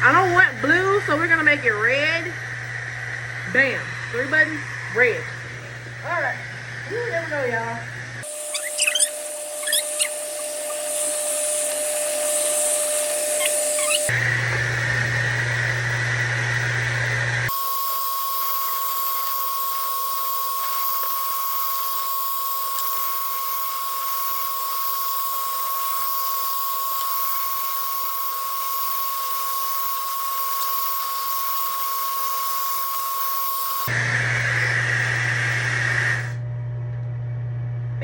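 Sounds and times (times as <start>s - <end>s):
hair dryer whining: 0.0s - 36.5s.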